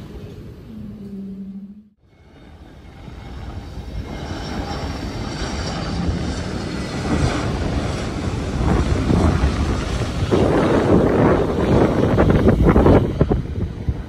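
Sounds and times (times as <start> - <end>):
faint high whine: 0.0 - 11.4
jet engine rumble: 0.0 - 14.0.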